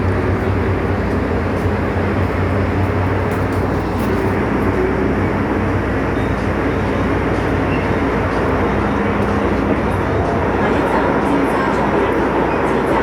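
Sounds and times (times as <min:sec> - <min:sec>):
train rumbling in motion: 0:00.0 - 0:13.0.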